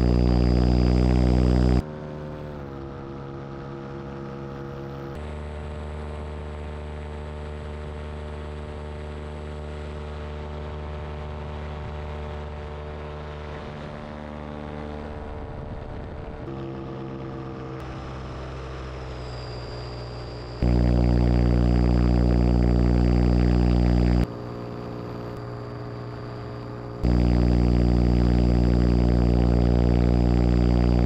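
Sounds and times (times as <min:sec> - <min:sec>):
paramotor engine droning: 0:00.0 - 0:31.0.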